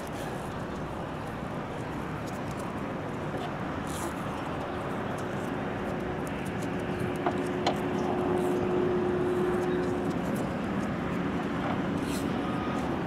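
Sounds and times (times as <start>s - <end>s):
distant engine drone: 0.0s - 13.0s
steady hum: 0.0s - 13.0s.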